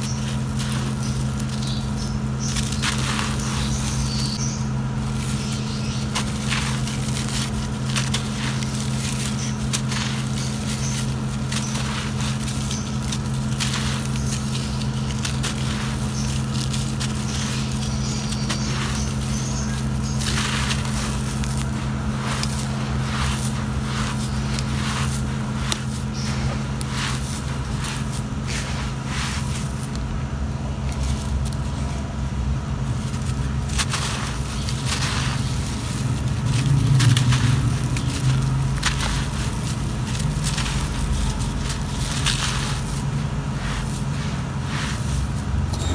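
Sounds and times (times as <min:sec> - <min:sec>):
hands crumbling dry soil: 0:00.0 - 0:45.9
steady low hum: 0:00.0 - 0:45.9.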